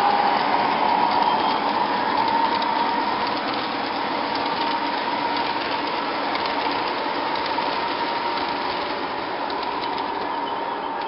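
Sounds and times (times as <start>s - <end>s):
model trains rumbling on track: 0.0s - 11.0s.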